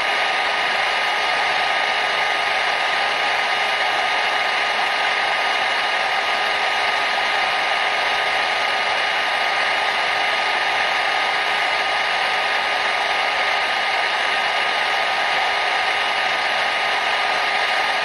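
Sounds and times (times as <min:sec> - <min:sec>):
faint motor whine: 0:00.0 - 0:18.0
hair dryer air rush: 0:00.0 - 0:18.0.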